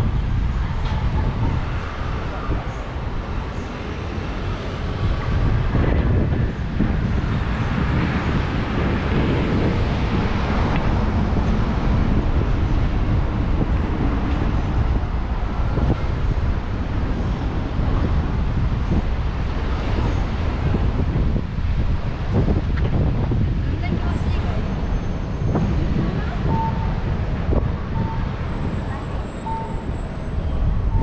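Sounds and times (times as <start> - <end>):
traffic rushing: 0.0 - 31.0
wind buffeting microphone: 0.0 - 31.0.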